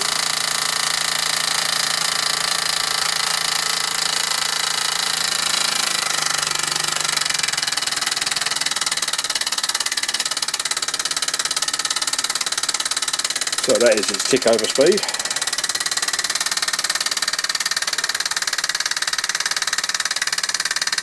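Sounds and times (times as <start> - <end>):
toy steam engine chuffing: 0.0 - 21.0.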